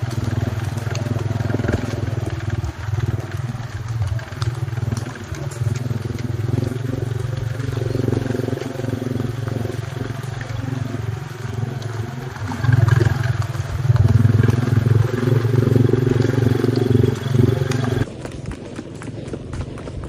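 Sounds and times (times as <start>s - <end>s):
engine drone: 0.0s - 18.2s.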